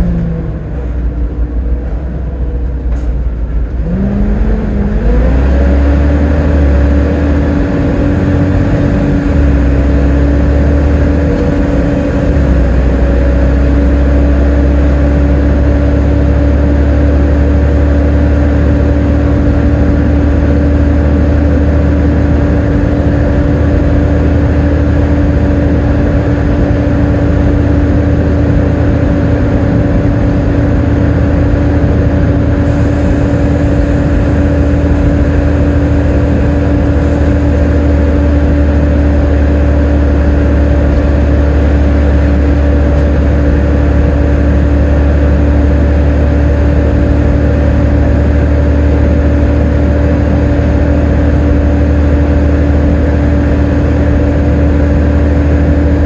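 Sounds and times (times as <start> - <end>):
bus engine drone with whine: 0.0 - 56.0.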